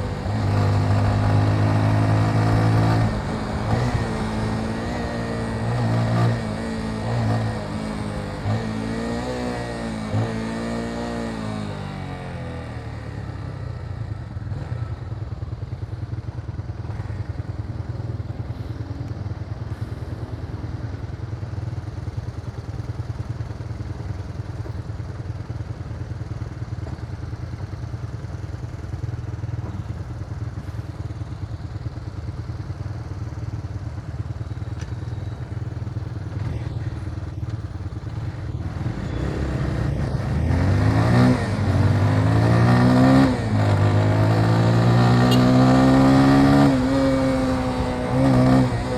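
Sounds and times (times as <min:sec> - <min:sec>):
motorcycle engine revving: 0:00.0 - 0:19.0, 0:28.6 - 0:48.9
road and wind noise: 0:00.0 - 0:48.9.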